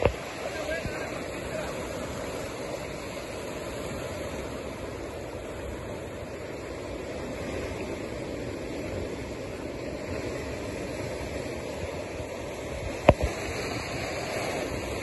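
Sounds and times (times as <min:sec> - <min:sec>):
surf washing onto cobble beach: 0:00.0 - 0:15.0.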